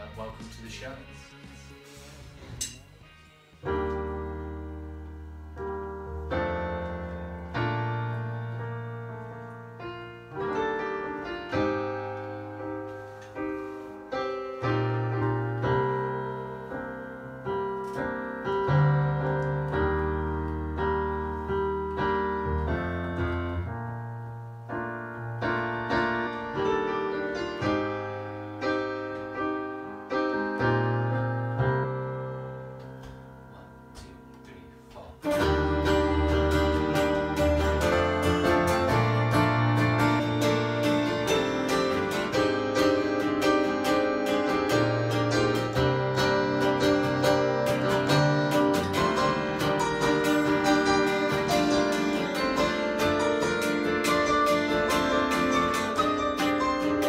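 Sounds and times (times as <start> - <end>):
electric piano chords: 2.5 - 57.0.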